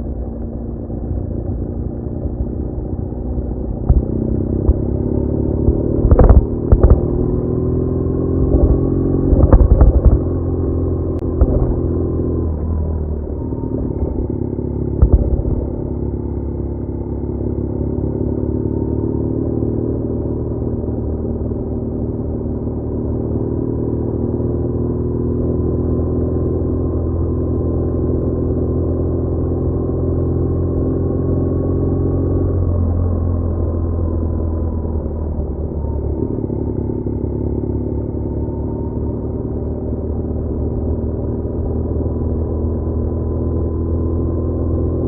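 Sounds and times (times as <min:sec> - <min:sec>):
motorcycle engine running: 0:00.0 - 0:45.0
road and wind rush: 0:00.0 - 0:45.0.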